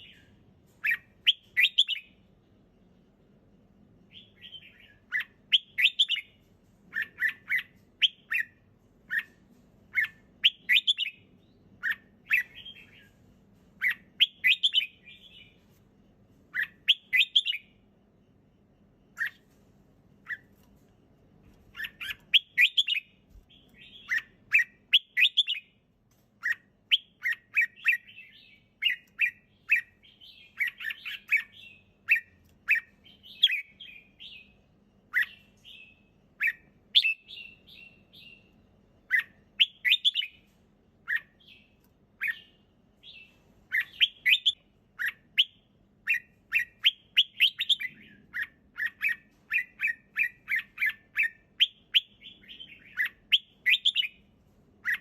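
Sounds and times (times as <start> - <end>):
bird singing bright notes: 0.0 - 2.2, 4.1 - 9.3, 9.9 - 13.2, 13.8 - 15.6, 16.5 - 17.8, 21.7 - 25.8, 26.4 - 40.5, 41.1 - 54.2
faint low hum: 0.0 - 55.0.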